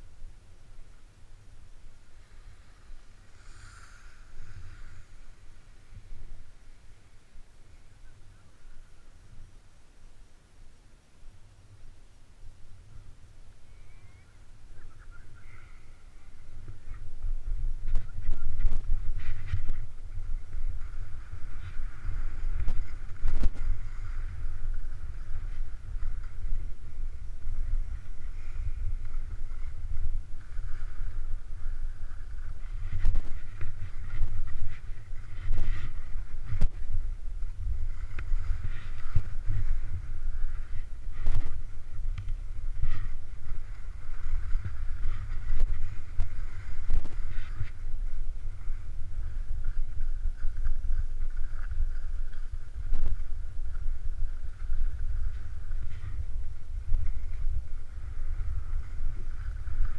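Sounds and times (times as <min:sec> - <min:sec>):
edges sliding on snow: 0:01.5 - 0:09.0, 0:14.9 - 0:59.9
wind buffeting microphone: 0:11.3 - 0:59.9.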